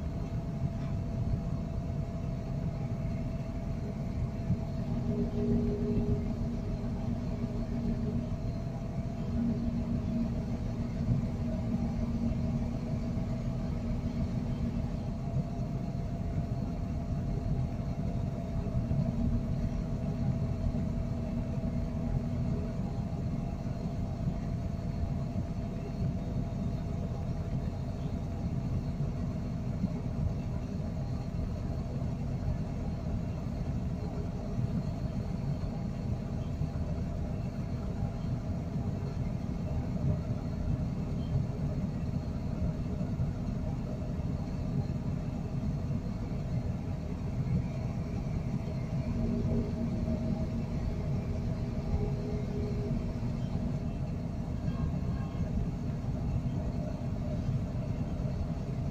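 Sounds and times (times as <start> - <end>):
diesel engine low rumble: 0.0 - 58.9
hum: 0.0 - 58.9.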